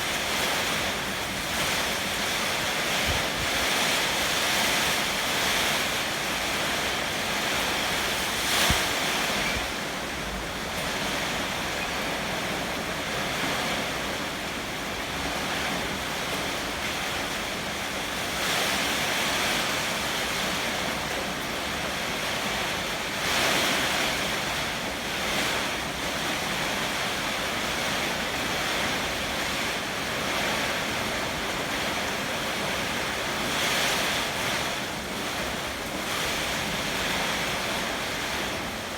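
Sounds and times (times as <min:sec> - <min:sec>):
heavy rain hissing: 0:00.0 - 0:38.9
wind buffeting the microphone: 0:00.0 - 0:38.9.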